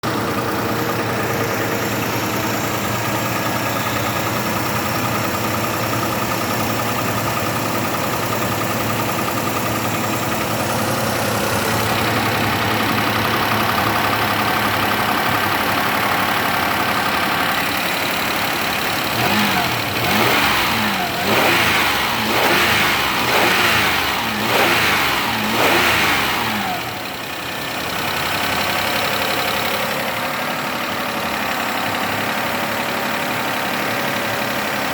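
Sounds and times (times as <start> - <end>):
car engine revving: 0.0 - 33.0
car engine idling: 0.0 - 34.9.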